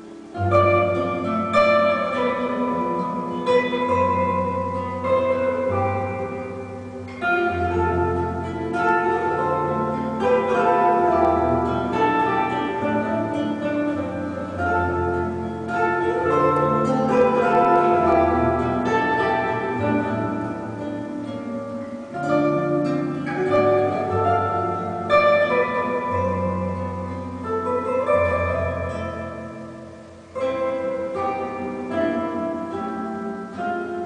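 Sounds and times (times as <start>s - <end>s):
plucked string notes: 0.0s - 34.0s
low bass notes: 0.4s - 32.9s.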